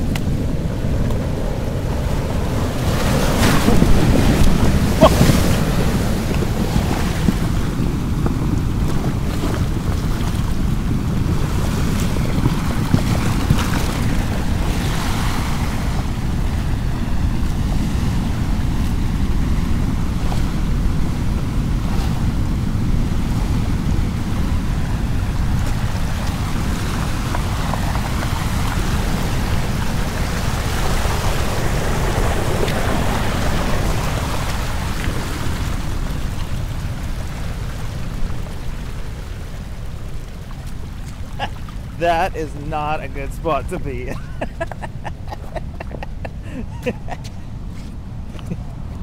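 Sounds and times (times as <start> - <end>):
ocean waves breaking on rocks: 0.0 - 49.0
wind rumble on microphone: 0.0 - 49.0.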